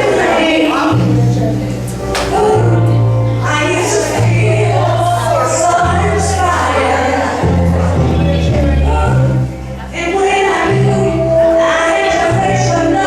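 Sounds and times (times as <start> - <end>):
backing voices: 0.0 - 13.0
song with sung vocals: 0.0 - 13.0
steady bass line: 0.0 - 13.0.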